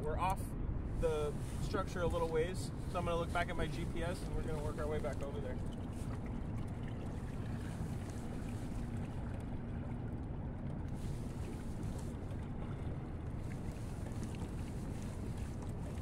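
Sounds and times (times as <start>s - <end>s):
wind on microphone: 0.0s - 16.0s
water moving around kayak: 0.2s - 16.0s.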